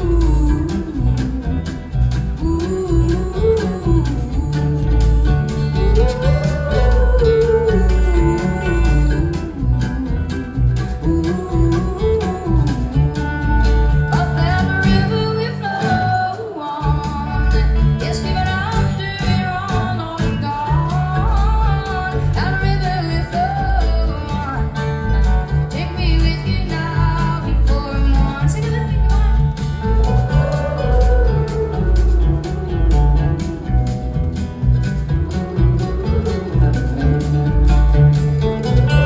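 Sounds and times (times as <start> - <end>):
bass guitar: 0.0 - 39.0
drums: 0.0 - 39.0
electric guitar: 0.0 - 39.0
strummed acoustic guitar: 0.0 - 39.0
woman singing: 0.0 - 39.0.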